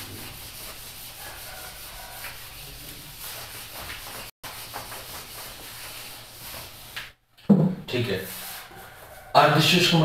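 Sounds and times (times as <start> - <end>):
duster rubbing on whiteboard: 0.0 - 7.2, 8.1 - 9.3.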